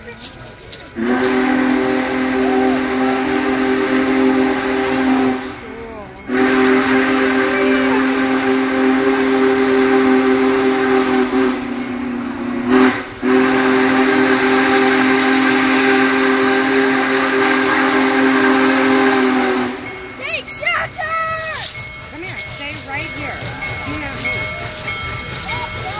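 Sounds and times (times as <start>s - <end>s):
steam locomotive whistle blasts: 1.0s - 25.9s.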